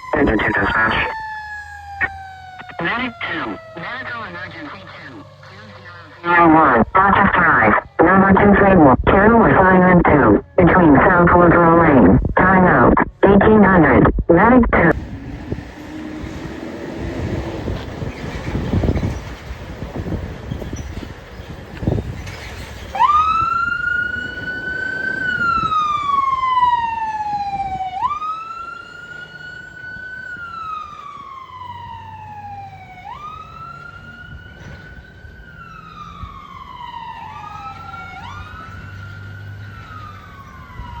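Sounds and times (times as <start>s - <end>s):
siren wailing: 0.0s - 18.7s, 22.9s - 41.0s.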